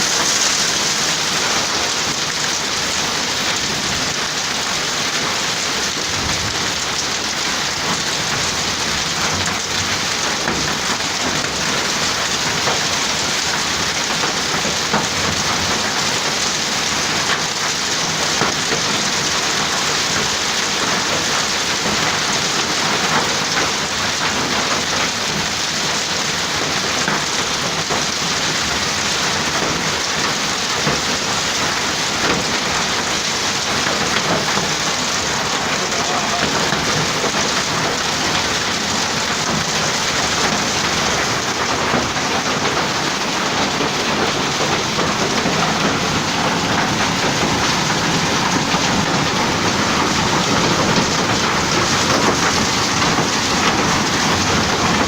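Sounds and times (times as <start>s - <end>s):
hail and heavy rain pelting: 0.0s - 55.0s.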